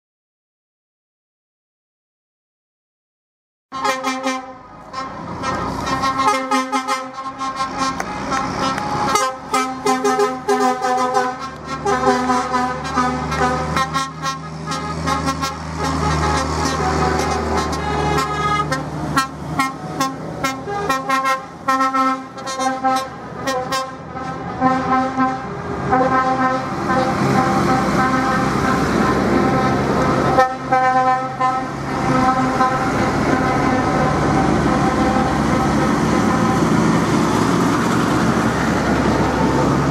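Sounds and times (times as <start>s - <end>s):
truck and tractor horns: 3.7s - 39.9s
diesel engines running: 3.8s - 39.9s.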